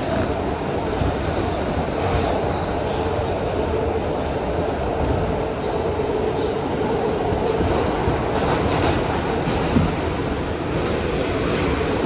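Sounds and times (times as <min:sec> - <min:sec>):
subway car wheels rumbling on rail: 0:00.0 - 0:12.0.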